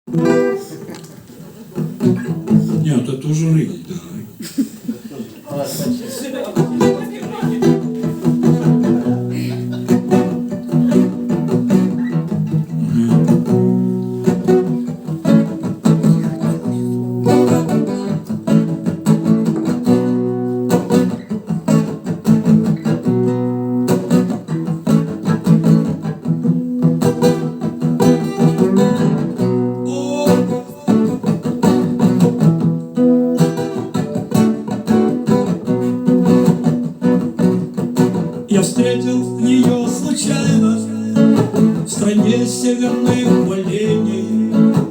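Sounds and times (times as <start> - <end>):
guitar strumming chords: 0.1 - 1.0, 1.8 - 2.9, 6.6 - 44.9.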